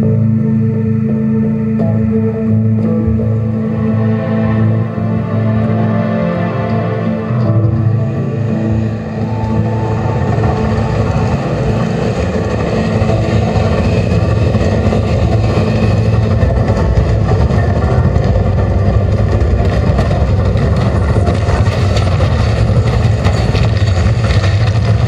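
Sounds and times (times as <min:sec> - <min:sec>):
loud low rumble: 0:00.0 - 0:25.0.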